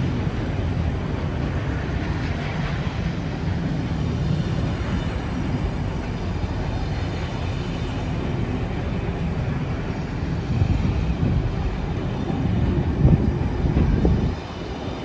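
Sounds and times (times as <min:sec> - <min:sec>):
train running past: 0:00.0 - 0:15.0.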